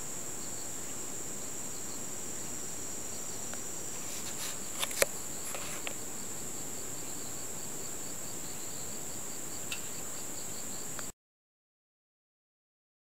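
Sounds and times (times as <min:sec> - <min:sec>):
crickets trilling: 0:00.0 - 0:11.1
insect chirping rhythmically: 0:00.0 - 0:11.1.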